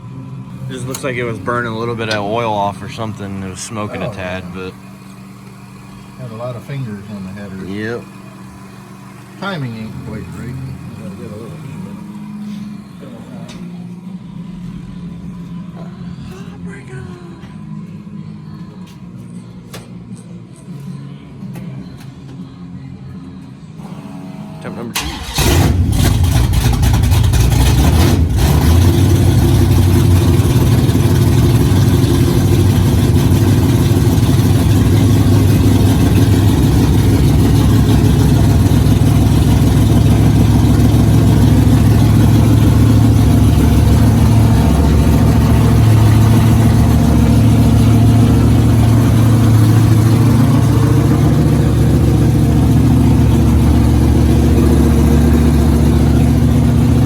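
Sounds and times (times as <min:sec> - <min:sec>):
loud engine running: 0:00.0 - 0:16.7, 0:23.8 - 0:57.0.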